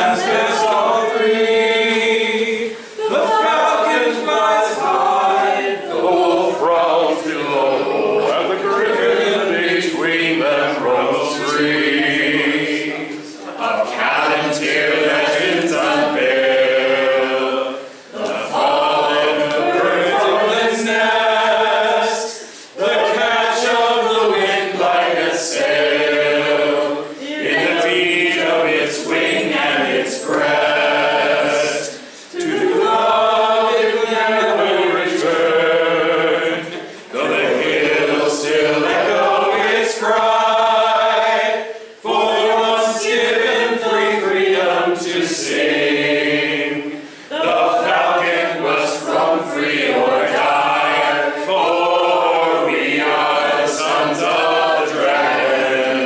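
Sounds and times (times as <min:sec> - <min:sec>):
group of people singing: 0:00.0 - 0:56.0.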